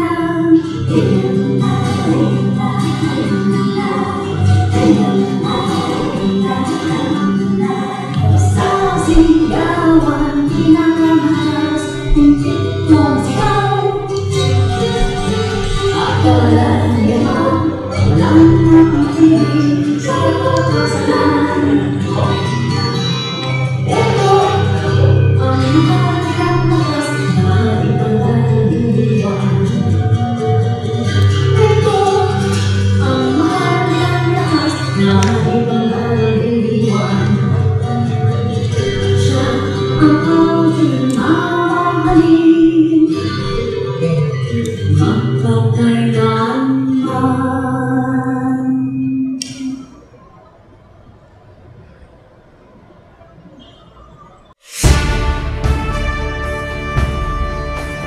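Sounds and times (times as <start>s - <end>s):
woman singing: 0.0s - 22.8s, 23.8s - 49.9s
instrumental accompaniment: 0.6s - 45.1s, 54.7s - 58.0s.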